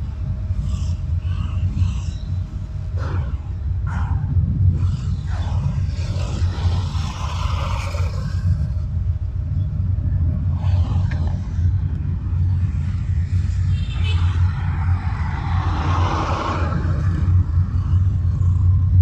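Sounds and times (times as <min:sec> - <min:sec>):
car road and engine rumble: 0:00.0 - 0:19.0
passing traffic: 0:00.0 - 0:19.0.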